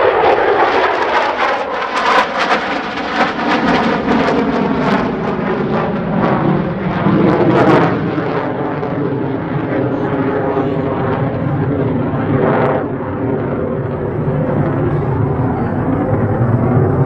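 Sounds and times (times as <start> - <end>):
fighter jet engine rumbling: 0.0 - 17.0.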